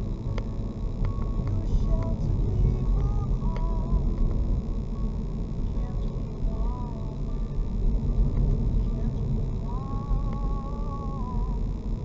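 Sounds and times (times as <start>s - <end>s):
car tyres and engine rumble: 0.0s - 12.0s.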